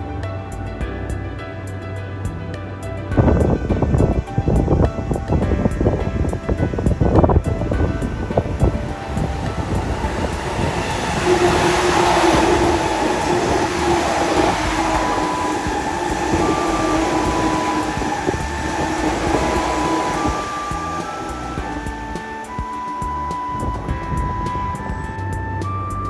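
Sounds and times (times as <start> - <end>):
train rumbling on rails: 0.0 - 26.0
humming tone from running gear: 3.1 - 26.0.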